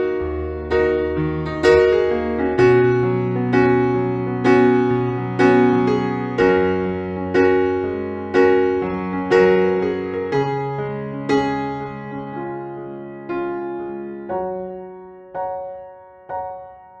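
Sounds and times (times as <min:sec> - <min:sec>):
electric piano slow chords: 0:00.0 - 0:17.0.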